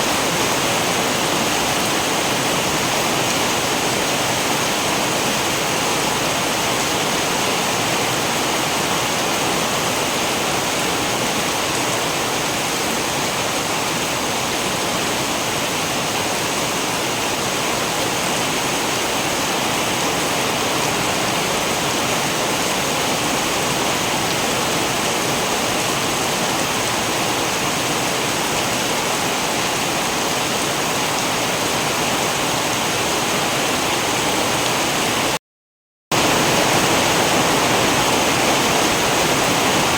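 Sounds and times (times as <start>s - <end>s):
heavy rain: 0.0s - 35.4s, 36.1s - 39.9s.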